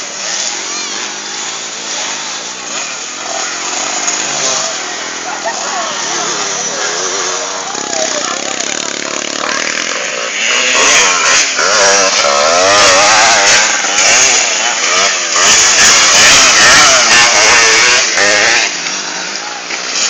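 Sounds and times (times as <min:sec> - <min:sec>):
motocross bike engines racing: 0:00.0 - 0:20.0.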